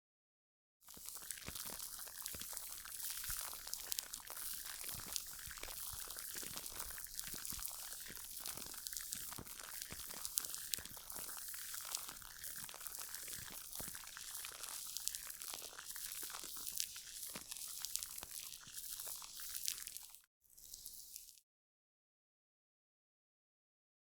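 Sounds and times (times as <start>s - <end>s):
crackling and crinkling from hands: 0.9s - 21.4s.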